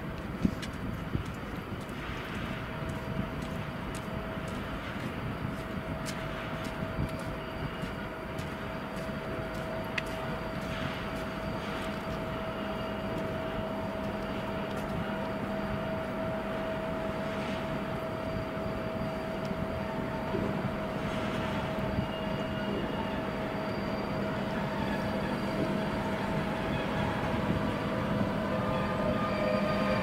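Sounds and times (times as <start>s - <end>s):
train rumble: 0.0s - 30.0s
train whine: 0.0s - 30.0s.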